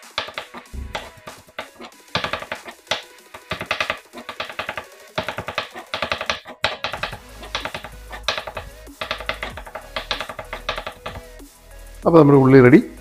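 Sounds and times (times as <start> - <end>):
knife chopping on cutting board: 0.0 - 11.2
background music: 0.0 - 13.0.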